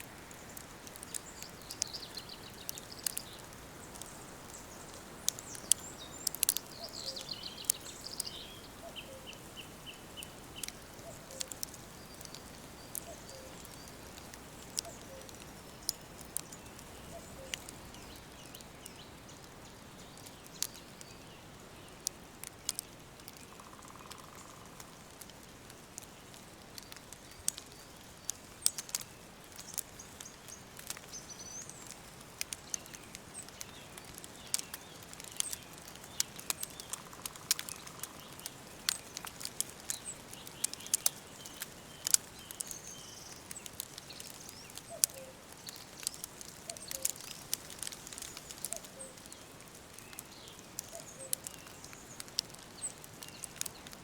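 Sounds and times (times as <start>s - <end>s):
faint steady hiss: 0.0s - 54.0s
sharp crackles and ticks: 0.0s - 54.0s.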